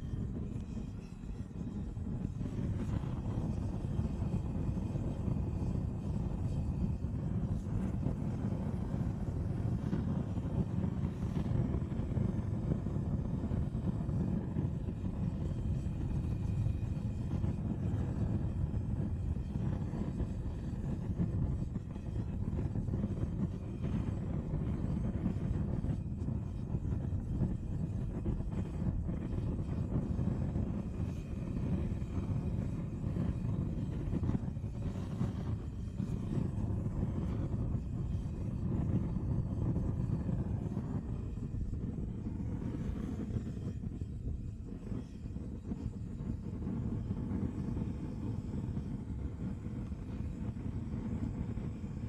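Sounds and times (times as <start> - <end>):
propane torch burning: 0.0 - 52.0.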